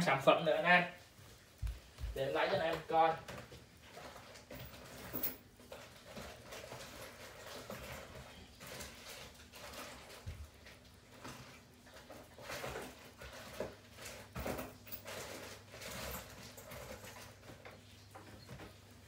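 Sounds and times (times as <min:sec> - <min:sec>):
rustling of objects handled: 0:01.0 - 0:19.0.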